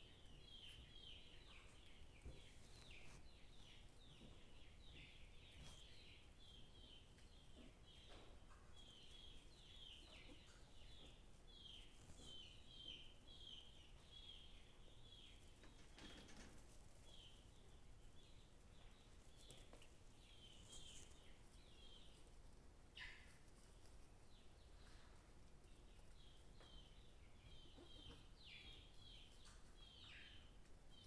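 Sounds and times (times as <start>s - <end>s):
faint high bird chirping: 0.0s - 31.0s
soft rustle: 0.2s - 28.3s.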